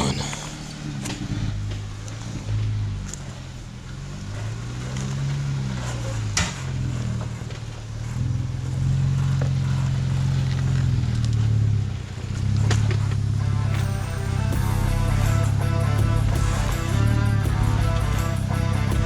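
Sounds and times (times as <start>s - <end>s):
engine running at low speed: 0.0s - 19.0s.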